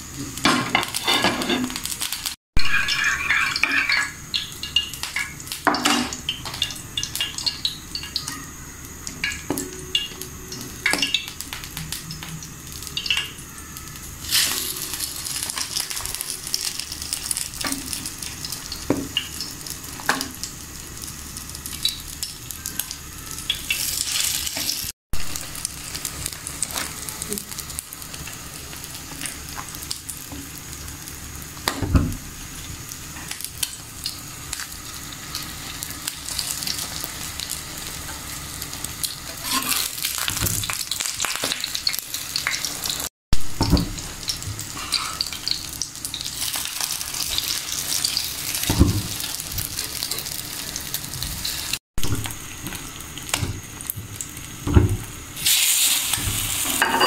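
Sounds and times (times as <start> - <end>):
bread sizzling in oil: 0.0 - 57.0.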